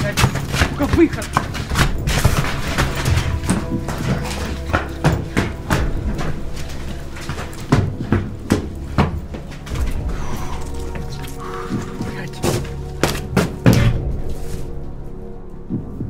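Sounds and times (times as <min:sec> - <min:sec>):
running footsteps on concrete stairs: 0:00.0 - 0:14.9.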